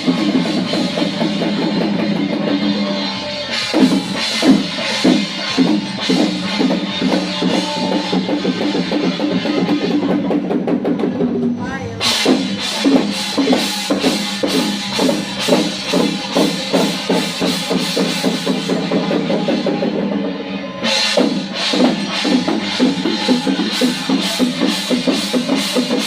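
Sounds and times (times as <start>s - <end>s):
bright hissing percussion strikes: 0.0s - 10.6s, 12.0s - 26.0s
drums and percussion music: 0.0s - 26.0s.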